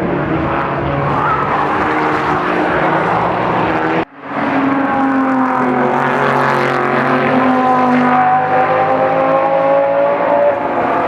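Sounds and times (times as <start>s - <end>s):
racing car engines at high revs: 0.0s - 11.0s.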